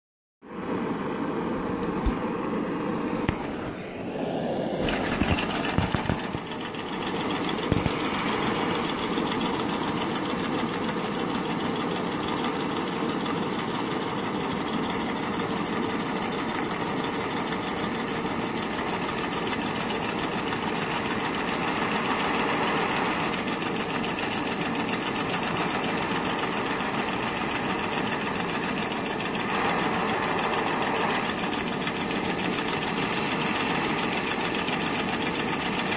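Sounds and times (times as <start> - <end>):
steam engine mechanical chatter: 4.8 - 35.9.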